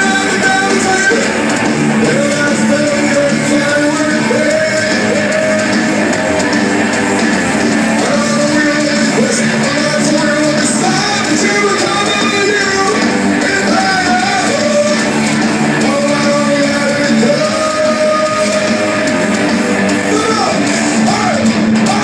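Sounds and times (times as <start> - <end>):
electric guitar melody: 0.0 - 22.0
live rock band playing: 0.0 - 22.0.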